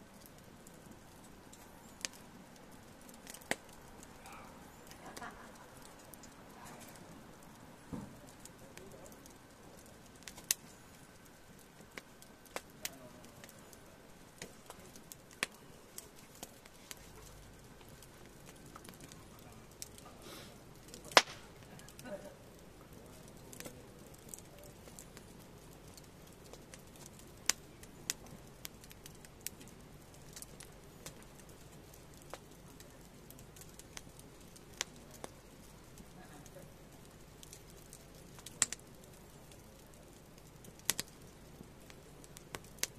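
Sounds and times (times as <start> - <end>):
sharp pops from burning logs: 0.0 - 42.9
wood fire crackling: 0.0 - 42.9.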